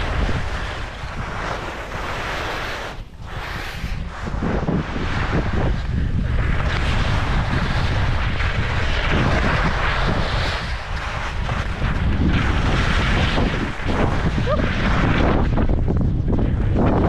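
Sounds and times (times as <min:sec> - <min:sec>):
skis scraping on snow: 0:00.0 - 0:17.0
wind rushing over microphone: 0:00.0 - 0:17.0.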